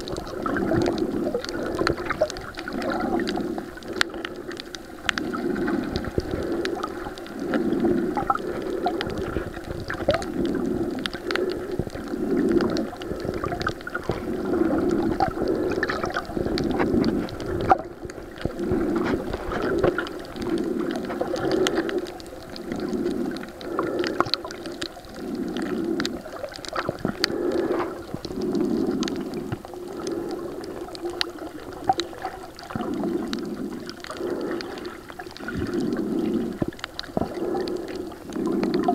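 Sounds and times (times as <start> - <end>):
faint clicks and ticks: 0.0 - 38.9
muffled water swishing underwater: 0.0 - 38.9.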